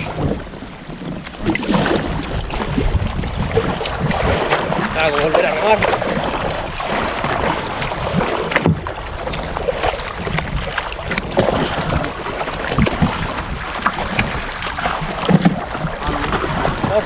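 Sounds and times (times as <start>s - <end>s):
paddle splashing water: 0.0s - 17.0s
wind noise on microphone: 0.0s - 17.0s.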